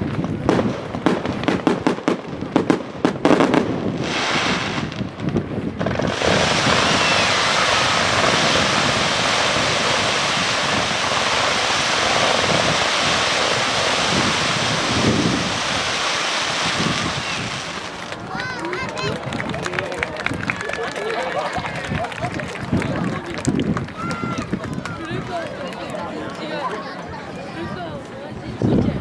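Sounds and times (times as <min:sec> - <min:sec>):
firework bangs: 0:00.0 - 0:25.6
fireworks crackling and hissing: 0:00.0 - 0:28.2.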